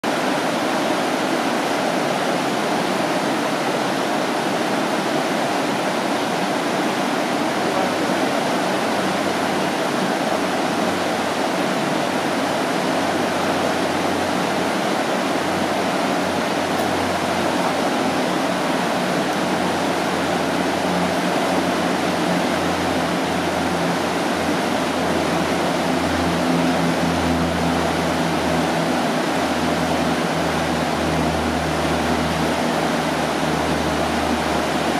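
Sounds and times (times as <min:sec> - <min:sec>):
rapids rushing over rocks: 0:00.0 - 0:34.9.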